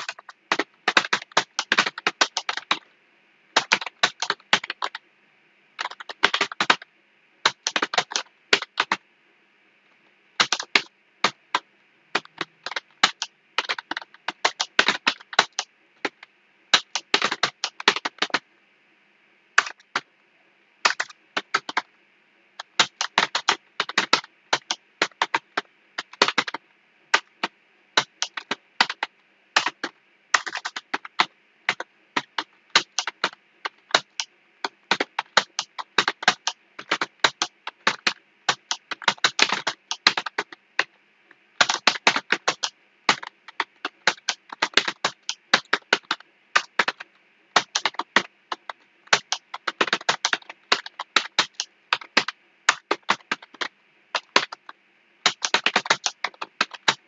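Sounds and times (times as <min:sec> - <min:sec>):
typing on keyboard: 0:00.0 - 0:02.8, 0:03.6 - 0:05.0, 0:05.8 - 0:06.8, 0:07.5 - 0:09.0, 0:10.4 - 0:11.6, 0:12.2 - 0:16.2, 0:16.8 - 0:18.4, 0:20.8 - 0:21.9, 0:22.6 - 0:40.9, 0:41.6 - 0:57.0.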